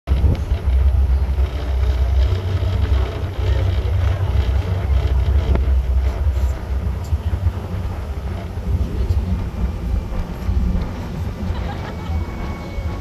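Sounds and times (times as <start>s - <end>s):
boat engine: 0.1s - 13.0s
water noise: 0.1s - 13.0s
wind buffeting microphone: 0.1s - 13.0s.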